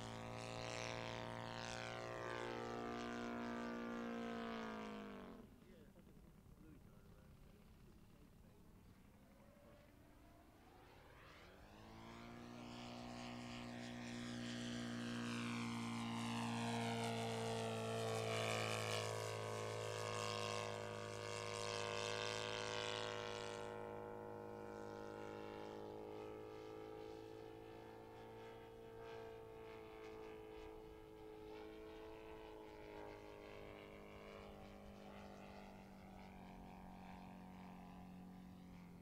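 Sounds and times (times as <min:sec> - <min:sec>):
model plane engine and propeller: 0:00.0 - 0:39.0.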